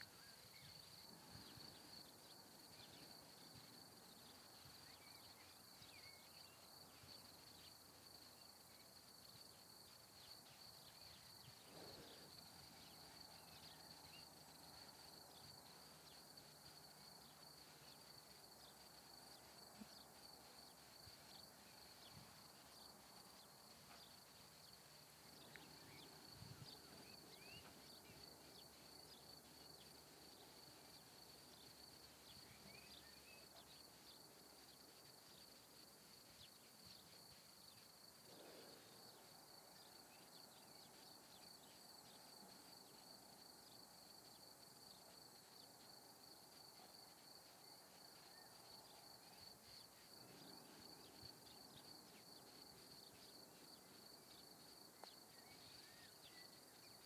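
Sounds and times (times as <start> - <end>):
faint high-pitched whine: 0.0 - 57.0.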